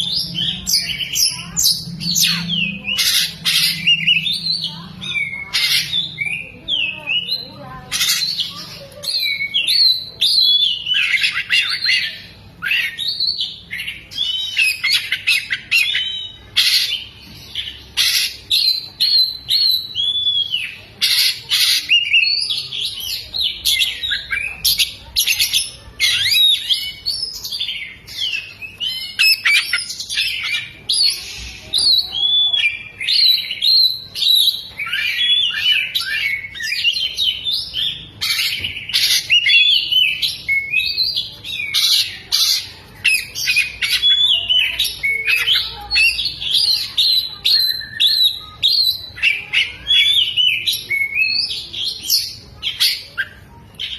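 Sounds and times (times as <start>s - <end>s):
magpie-robin singing: 0.0s - 53.9s.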